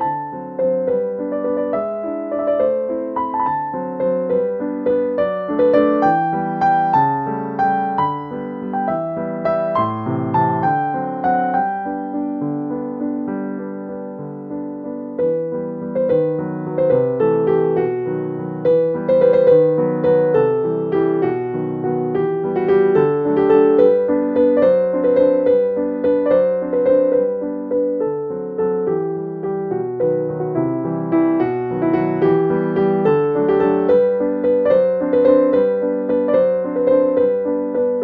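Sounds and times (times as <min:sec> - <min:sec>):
gentle piano melody: 0:00.0 - 0:38.0.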